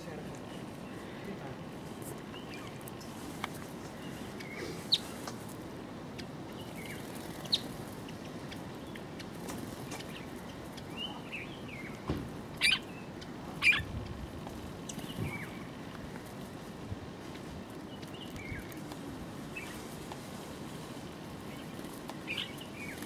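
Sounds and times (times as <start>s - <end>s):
small songbirds chirping: 0.0s - 23.0s
steady background hiss: 0.0s - 23.0s.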